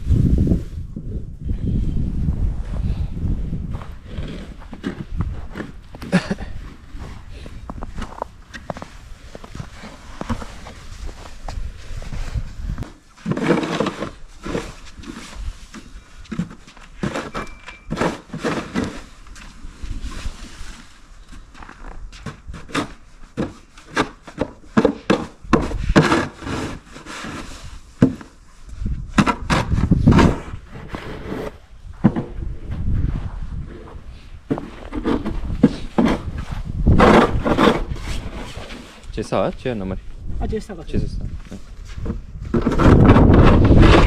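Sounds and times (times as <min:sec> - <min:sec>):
crunching and scraping in snow: 0:02.3 - 0:39.8.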